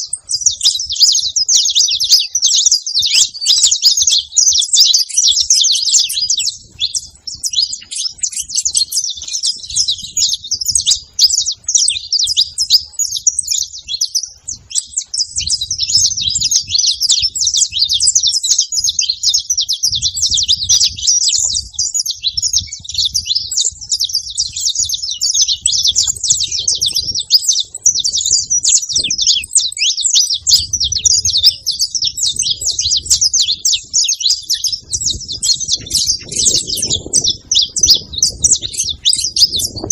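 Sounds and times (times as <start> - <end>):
finches chirping in chorus: 0.0 - 39.9.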